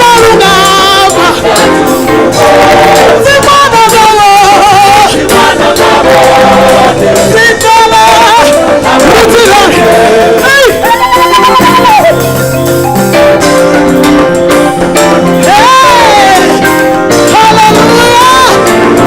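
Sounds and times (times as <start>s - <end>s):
music with percussion beat: 0.0s - 19.0s
voices singing held notes: 0.0s - 19.0s.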